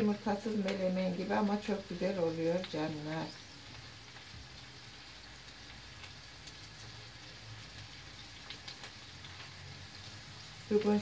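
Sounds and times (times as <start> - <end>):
peppers sizzling in oil: 0.0 - 11.0.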